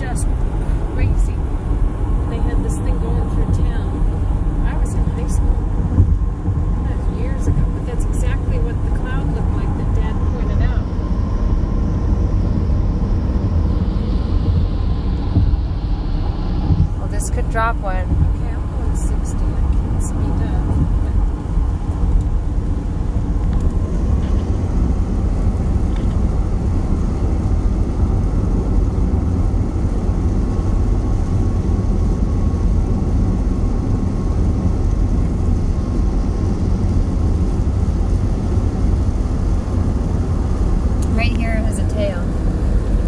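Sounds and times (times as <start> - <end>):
in-cabin road and wind noise: 0.0 - 43.0.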